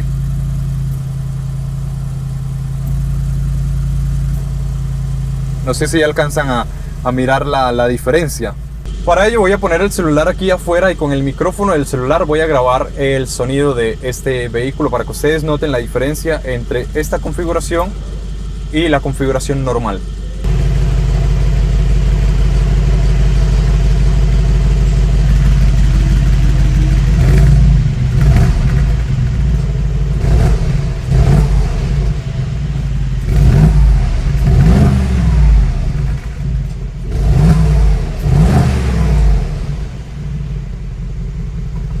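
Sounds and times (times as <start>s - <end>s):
car engine idling: 0.0s - 42.0s
car engine revving: 0.0s - 42.0s.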